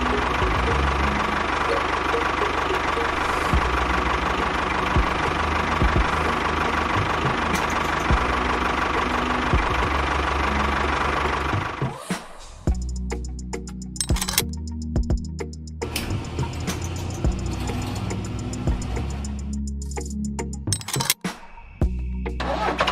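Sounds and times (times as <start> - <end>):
tractor engine running: 0.0 - 12.0, 12.7 - 21.2, 22.3 - 22.9.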